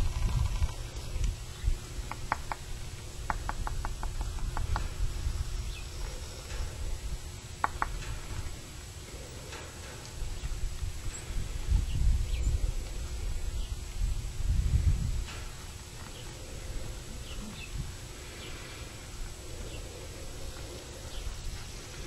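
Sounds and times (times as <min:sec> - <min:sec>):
wind on microphone: 0:00.0 - 0:08.8, 0:09.8 - 0:22.0.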